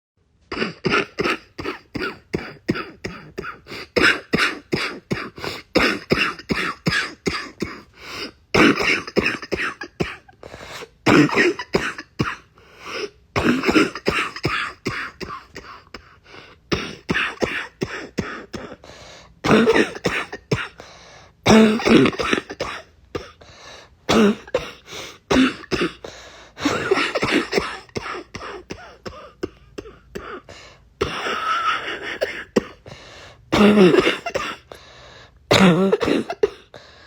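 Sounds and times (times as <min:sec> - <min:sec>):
person coughing congested: 0:00.5 - 0:23.4, 0:24.0 - 0:34.9, 0:35.5 - 0:36.7.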